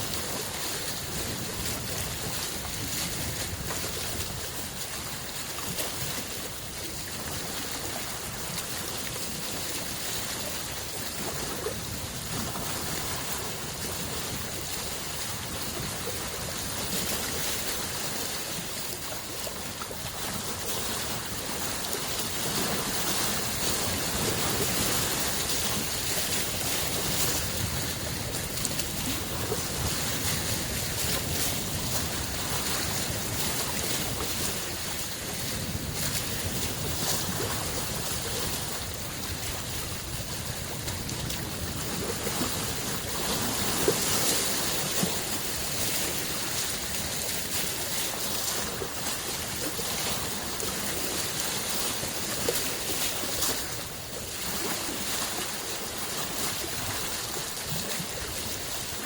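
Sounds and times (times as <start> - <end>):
wind buffeting microphone: 0.0 - 18.0, 18.8 - 51.5
waves lapping against shore: 0.0 - 59.0.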